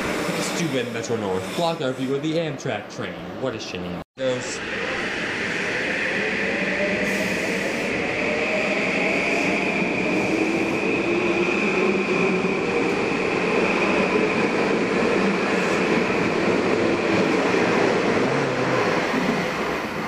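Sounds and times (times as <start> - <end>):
electric train running past: 0.0 - 2.4, 4.2 - 20.0.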